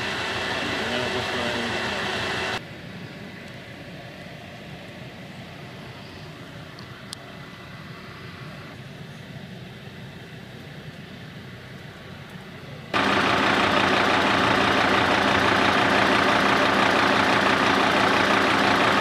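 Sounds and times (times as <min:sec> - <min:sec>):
fire engine diesel idling: 0:00.0 - 0:19.0.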